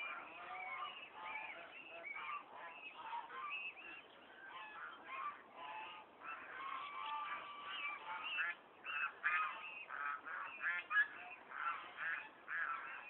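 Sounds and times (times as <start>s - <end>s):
flock of waterfowl calling: 0.0s - 13.0s.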